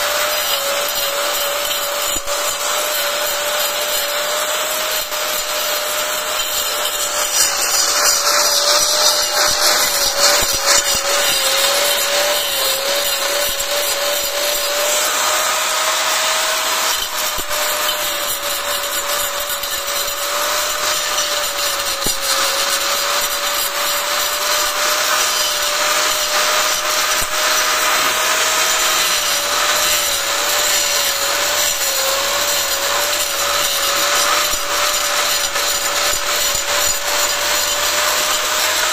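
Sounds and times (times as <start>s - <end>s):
angle grinder cutting bricks: 0.0s - 38.9s.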